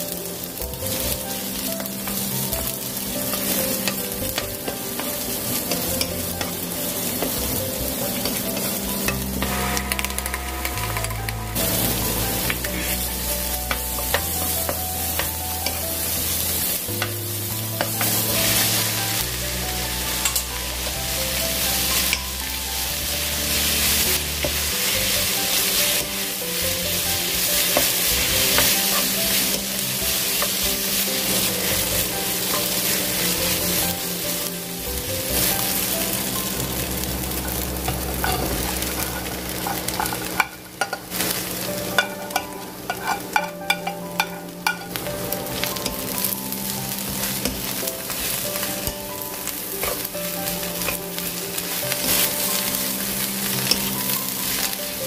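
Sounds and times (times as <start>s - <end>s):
vegetables sizzling in oil: 0.0s - 55.0s
wooden spatula stirring in pan: 0.0s - 55.0s.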